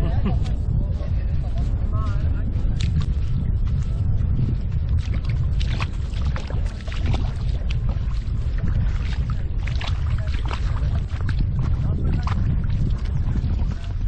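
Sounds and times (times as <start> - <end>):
water splashing and sloshing: 0.0 - 14.0
wind buffeting microphone: 0.0 - 14.0.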